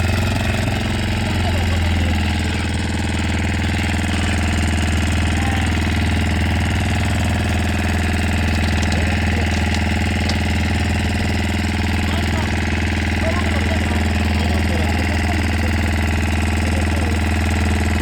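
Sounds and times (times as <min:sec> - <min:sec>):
motor boat engine running: 0:00.0 - 0:18.0.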